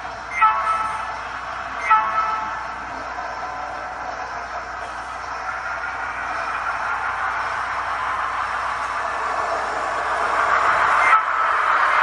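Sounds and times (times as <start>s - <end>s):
simulated diesel engine from speaker: 0.0s - 12.0s.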